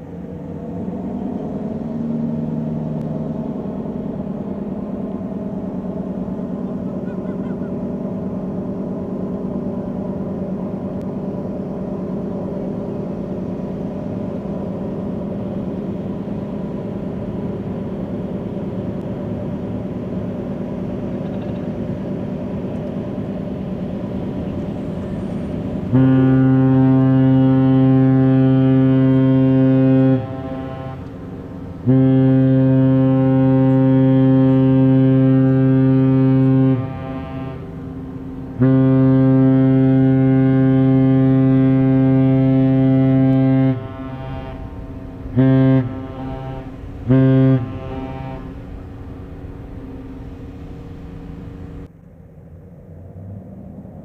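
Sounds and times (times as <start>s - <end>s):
ship horn long blast: 0.0s - 51.9s
ship machinery drone: 0.0s - 54.0s.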